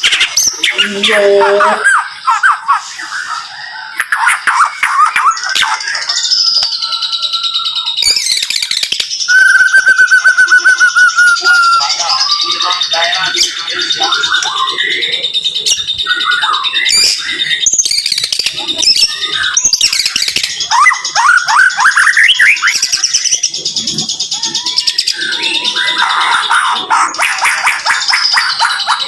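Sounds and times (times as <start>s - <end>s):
bird singing whistles and trills: 0.0s - 29.0s.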